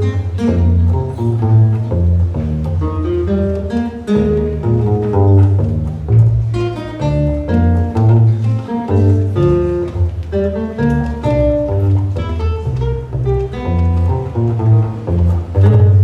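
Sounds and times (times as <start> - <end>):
small instrumental ensemble playing: 0.0 - 16.0.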